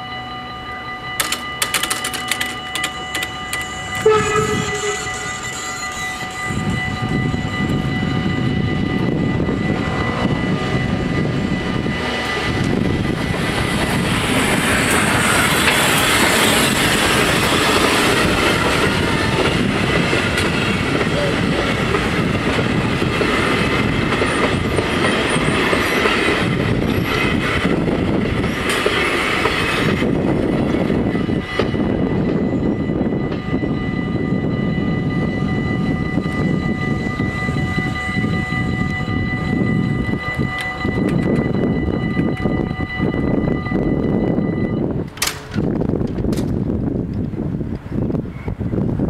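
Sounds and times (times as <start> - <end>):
crossing warning bells: 0.0 - 49.0
train wheels rumbling: 0.8 - 49.0.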